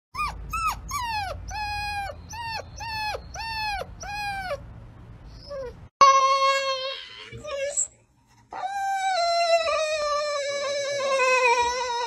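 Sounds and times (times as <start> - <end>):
puppy whining: 0.2 - 4.6, 5.3 - 12.0.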